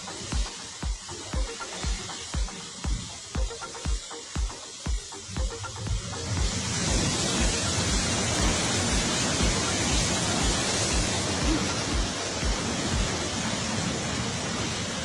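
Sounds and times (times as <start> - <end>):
background music with low beat: 0.0 - 14.2
fast water rushing: 0.0 - 15.0.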